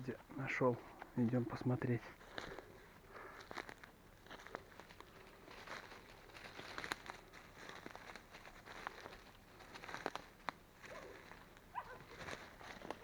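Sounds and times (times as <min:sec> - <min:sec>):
dry leaves rustling: 0:02.2 - 0:13.0
twigs snapping: 0:02.2 - 0:13.0.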